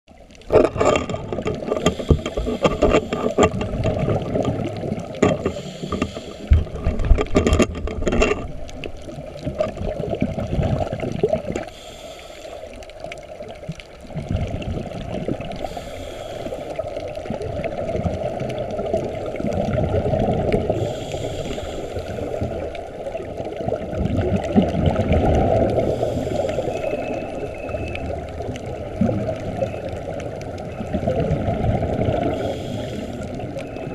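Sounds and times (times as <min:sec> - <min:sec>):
underwater regulator bubbles: 0:00.1 - 0:33.9.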